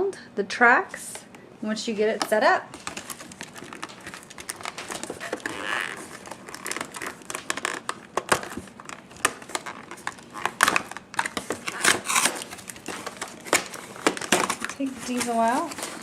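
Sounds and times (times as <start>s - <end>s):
plastic and cardboard crinkling: 2.3s - 16.0s.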